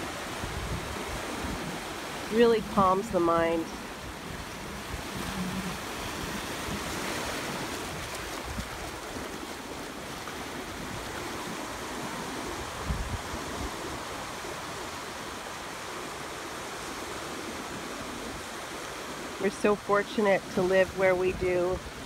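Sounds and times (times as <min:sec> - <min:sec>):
surf washing on shore: 0:00.0 - 0:22.0.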